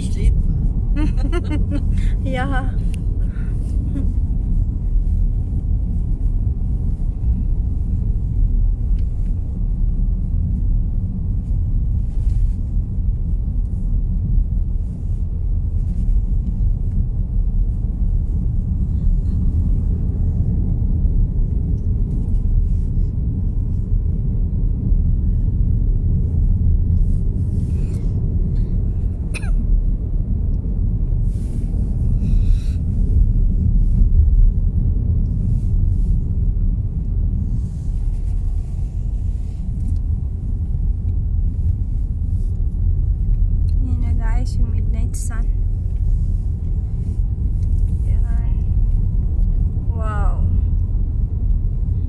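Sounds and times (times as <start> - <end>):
car tyres and engine rumble: 0.0 - 52.0.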